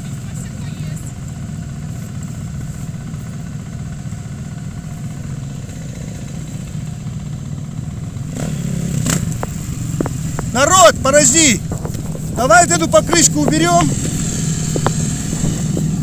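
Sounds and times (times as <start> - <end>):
engines idling: 0.0 - 16.0.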